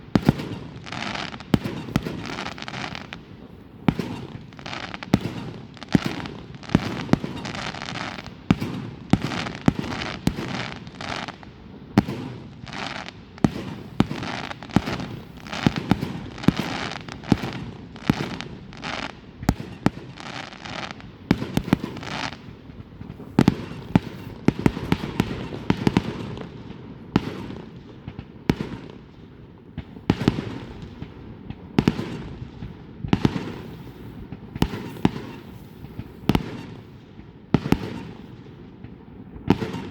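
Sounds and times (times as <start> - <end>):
fireworks crackling: 0.0 - 29.1, 29.8 - 39.9
fireworks bangs: 0.0 - 39.9.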